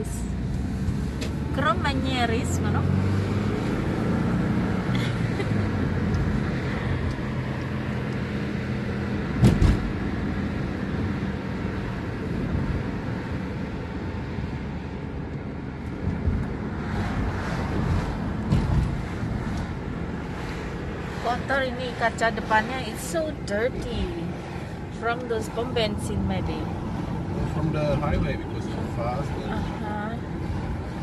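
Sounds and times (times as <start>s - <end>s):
car engine hum: 0.0s - 31.0s
road noise: 0.0s - 31.0s.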